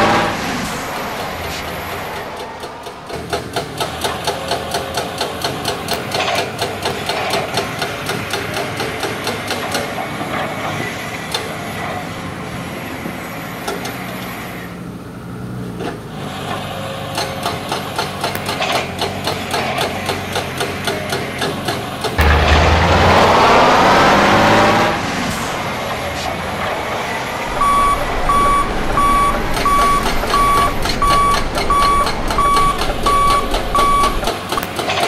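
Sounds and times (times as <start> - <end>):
model excavator running: 0.0 - 35.0.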